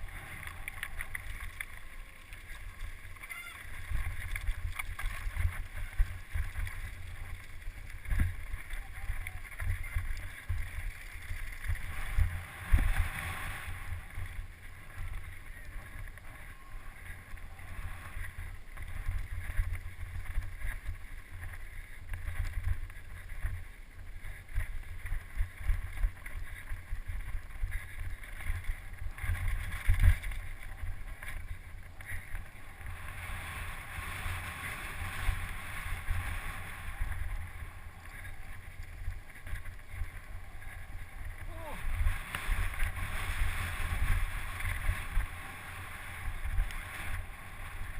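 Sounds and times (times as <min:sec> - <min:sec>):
tyres on trail: 0:00.0 - 0:47.9.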